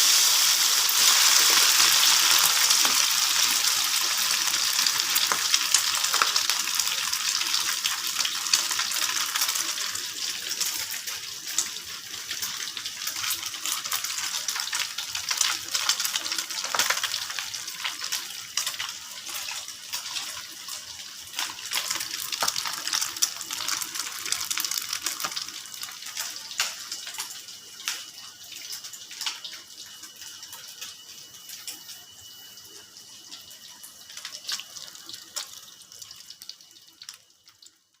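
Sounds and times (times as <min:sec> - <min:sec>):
oil crackling and popping: 0:00.0 - 0:32.5, 0:33.6 - 0:38.0
egg sizzling in hot oil: 0:00.0 - 0:38.0.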